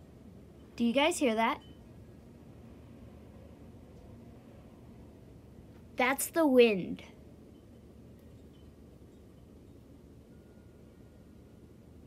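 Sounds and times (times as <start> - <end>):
wind rumbling outside: 0.0 - 12.0.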